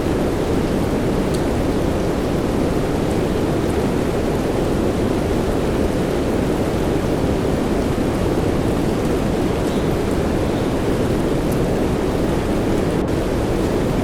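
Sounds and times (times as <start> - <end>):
steady rain with white noise: 0.0 - 14.0.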